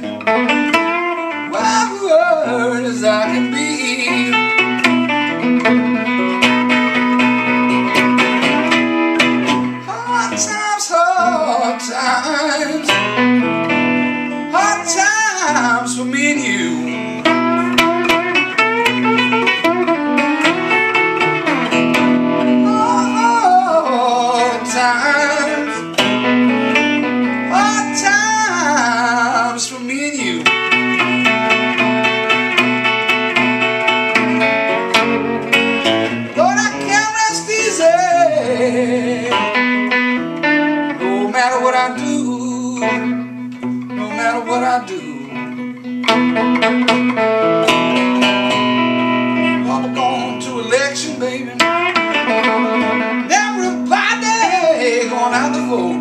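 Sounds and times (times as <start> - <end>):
electric guitar through amplifier: 0.0 - 56.0
man singing blues: 0.0 - 56.0.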